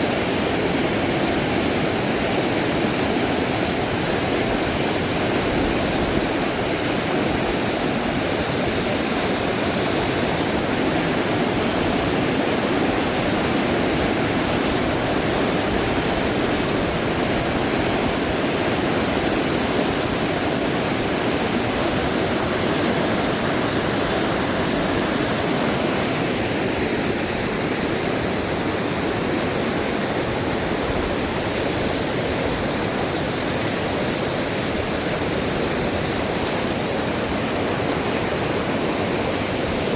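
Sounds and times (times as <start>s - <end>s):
high hiss: 0.0s - 39.9s
river water rushing: 0.0s - 39.9s.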